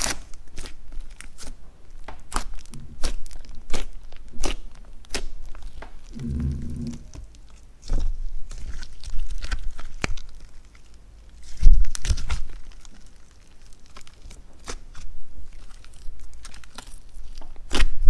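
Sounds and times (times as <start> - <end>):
slime squishing and popping: 0.0 - 18.0.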